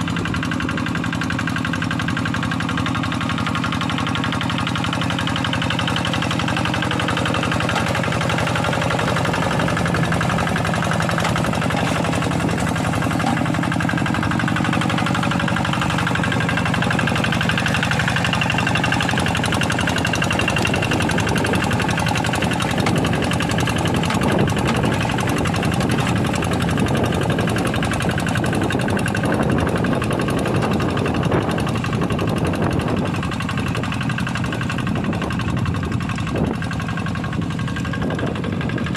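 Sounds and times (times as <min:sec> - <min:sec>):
diesel engine chugging under load: 0:00.0 - 0:38.9.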